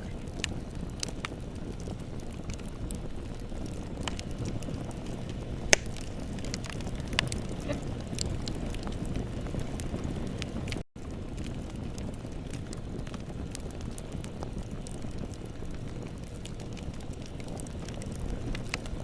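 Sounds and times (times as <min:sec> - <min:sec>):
bonfire crackling: 0:00.0 - 0:19.0
loud pop from fire: 0:00.0 - 0:19.0.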